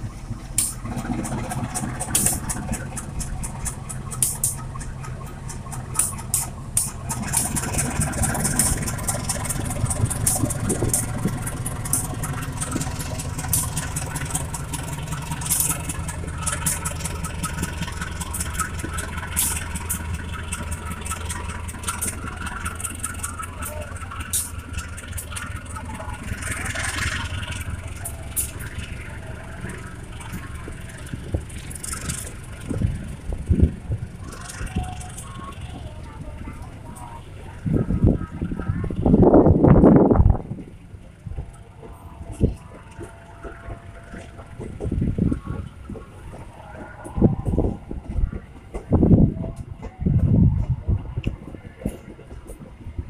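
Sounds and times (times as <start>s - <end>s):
diesel locomotive engine droning: 0.0s - 53.0s
wheels clicking over rail joints: 0.0s - 53.0s.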